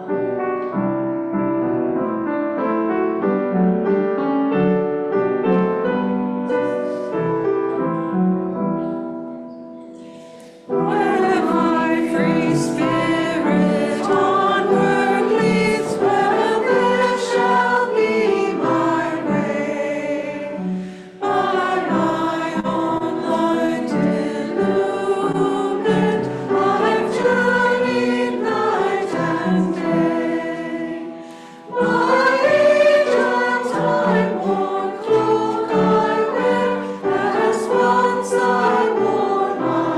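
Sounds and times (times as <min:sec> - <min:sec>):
congregation singing a hymn: 0:00.0 - 0:02.1, 0:10.0 - 0:39.9
piano accompaniment: 0:00.0 - 0:39.9.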